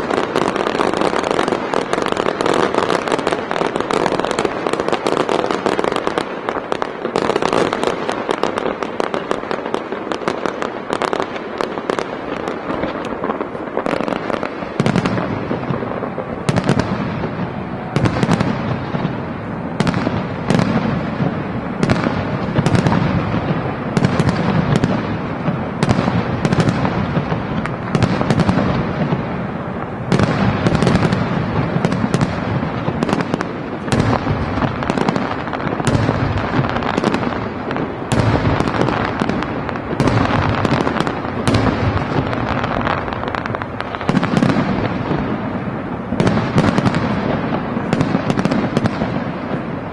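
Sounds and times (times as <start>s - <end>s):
fireworks bangs: 0.0s - 49.9s
fireworks crackling and popping: 0.0s - 49.9s.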